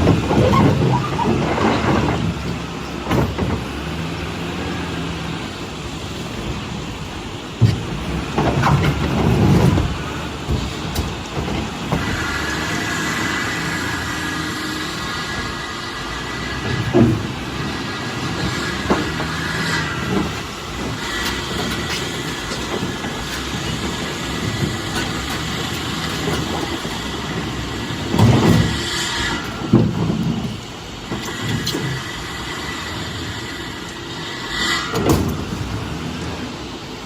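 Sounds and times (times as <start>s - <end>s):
heavy knocks and clunks: 0.0s - 6.9s, 7.6s - 15.6s, 16.2s - 33.3s, 34.9s - 36.2s
heavy machinery running: 0.0s - 37.0s.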